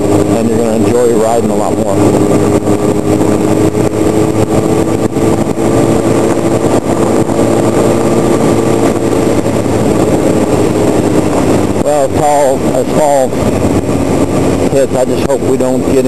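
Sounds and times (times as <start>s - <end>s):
motorcycle engine cruising: 0.0s - 16.0s
wind noise on microphone: 0.0s - 16.0s.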